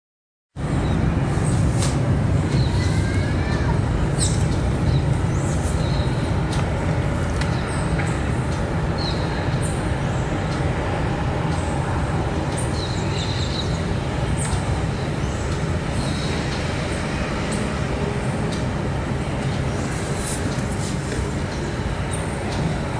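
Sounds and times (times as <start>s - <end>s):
distant traffic rumble: 0.6s - 22.9s.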